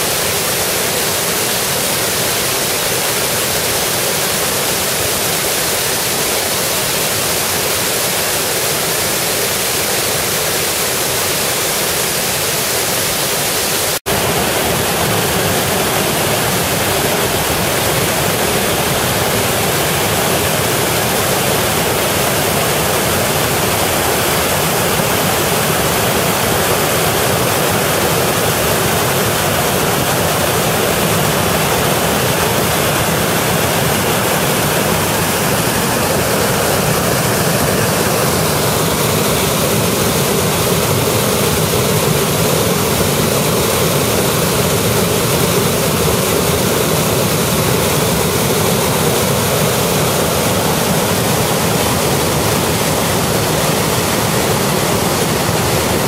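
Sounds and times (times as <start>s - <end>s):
white water rushing over rocks: 0.0s - 56.0s.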